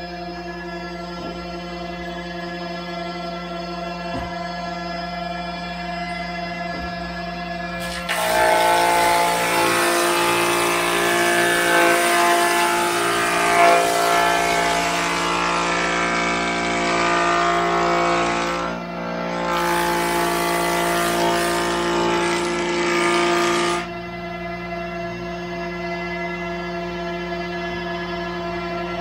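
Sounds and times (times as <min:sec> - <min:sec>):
jointer motor hum and whine: 0:00.0 - 0:25.6.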